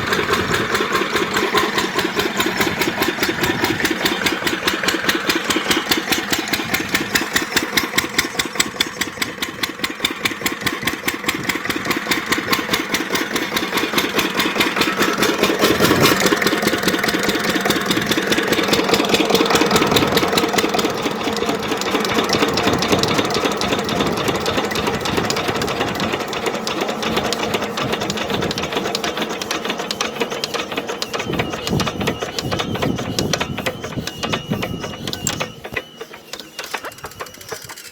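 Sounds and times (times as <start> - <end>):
diesel engine running steadily: 0.0 - 37.9.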